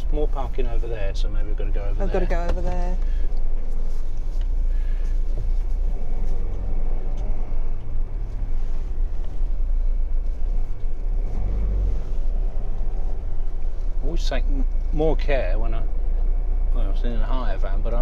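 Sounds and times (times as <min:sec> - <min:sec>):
motorhome engine rumble: 0:00.0 - 0:18.0.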